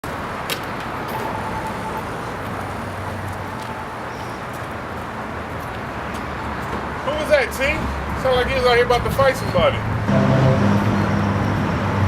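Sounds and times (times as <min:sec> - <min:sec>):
low traffic hum: 0:00.0 - 0:12.0.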